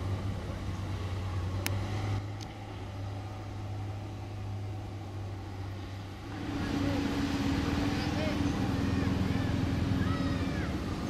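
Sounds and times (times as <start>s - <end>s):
diesel excavator engine running: 0.0s - 11.0s.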